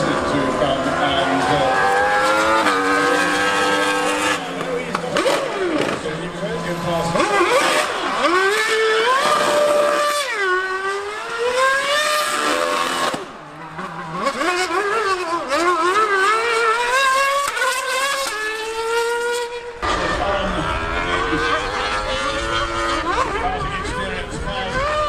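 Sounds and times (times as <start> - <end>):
racing car engine revving: 0.0 - 25.0
superbike engine revving: 0.0 - 25.0.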